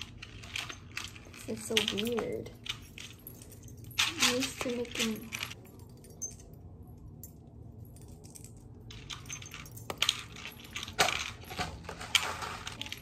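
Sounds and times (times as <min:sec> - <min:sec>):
beads and bangles clicking: 0:00.0 - 0:13.0.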